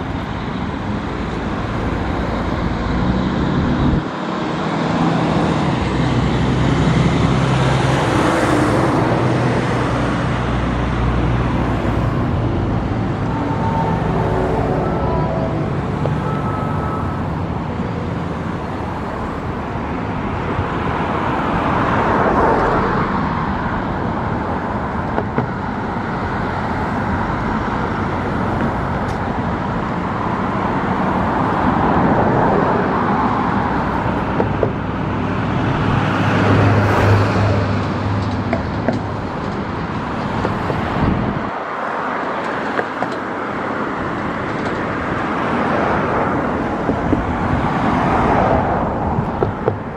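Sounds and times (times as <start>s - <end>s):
heavy vehicle engine hum: 0.0s - 49.9s
road traffic passing: 0.0s - 49.9s.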